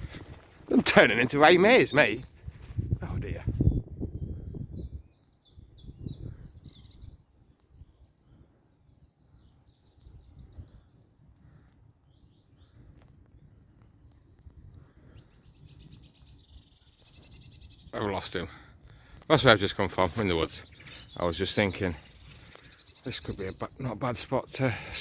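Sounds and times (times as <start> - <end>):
songbirds singing: 0.0 - 25.0.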